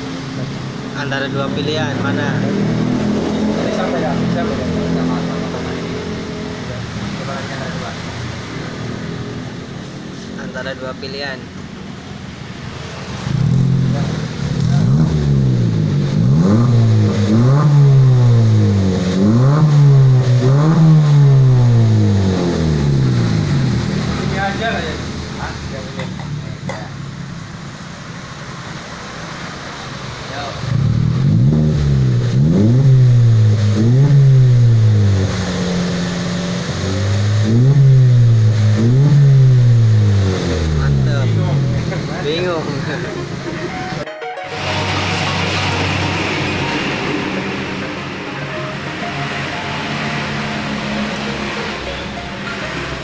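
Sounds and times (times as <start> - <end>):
car engine revving: 0.0 - 43.8, 44.6 - 53.0.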